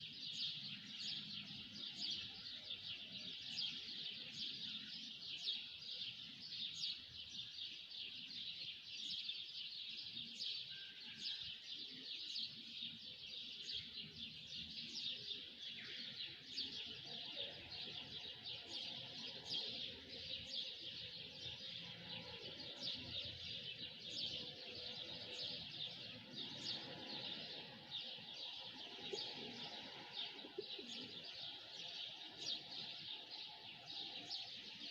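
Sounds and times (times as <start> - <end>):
small birds chirping chorus: 0.0 - 34.9.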